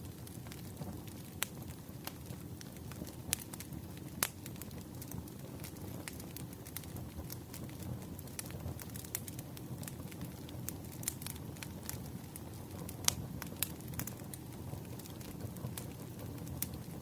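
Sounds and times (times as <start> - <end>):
wood fire crackling: 0.0 - 17.0
sharp pops of burning wood: 0.1 - 17.0.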